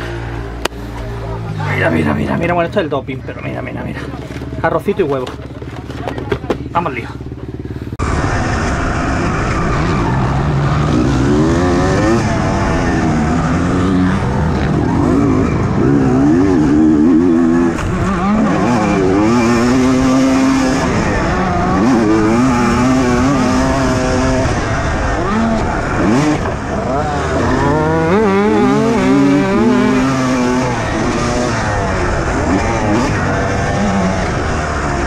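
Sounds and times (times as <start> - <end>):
motocross bike engine revving: 6.6 - 35.0.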